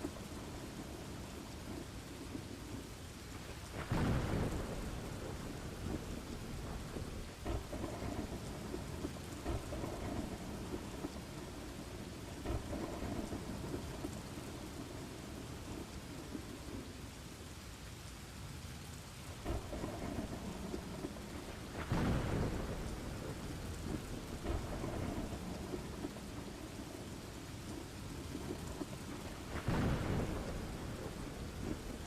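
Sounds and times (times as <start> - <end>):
rolling thunder rumbles: 0.0 - 17.1, 19.2 - 32.0
steady rain: 0.0 - 32.0.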